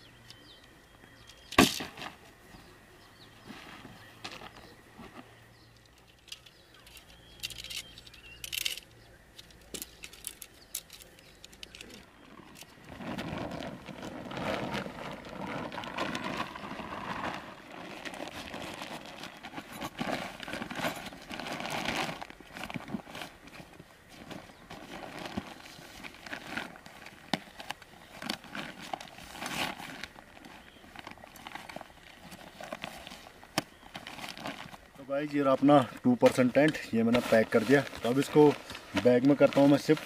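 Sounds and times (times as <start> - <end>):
tent fabric rustling: 1.6 - 8.8, 9.8 - 40.0.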